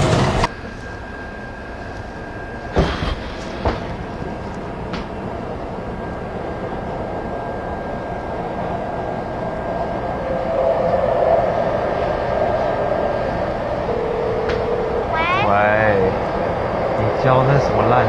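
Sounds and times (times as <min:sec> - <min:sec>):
metro train rumble: 0:00.0 - 0:18.0
faint high whine: 0:00.4 - 0:18.0.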